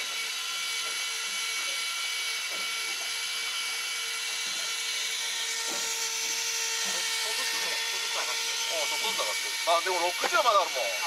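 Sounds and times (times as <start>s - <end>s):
reel motor whining: 0.0s - 11.0s.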